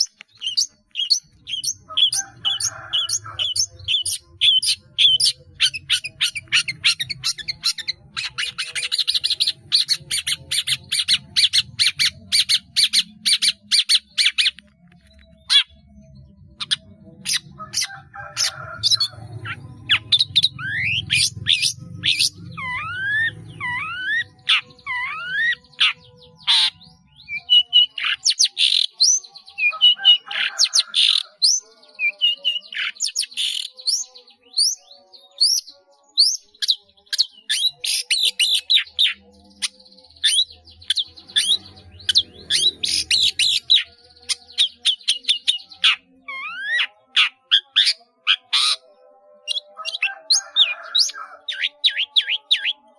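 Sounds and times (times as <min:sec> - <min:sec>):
bird singing varied song: 0:00.0 - 0:52.9.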